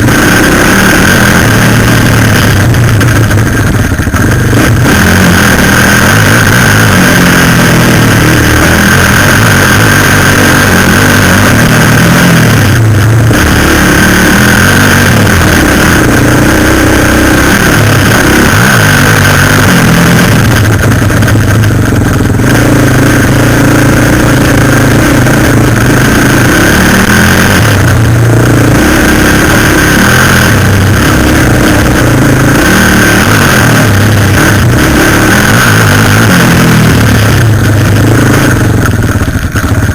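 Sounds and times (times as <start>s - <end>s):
quad bike engine revving: 0.0s - 39.9s
steady high whine: 0.0s - 39.9s.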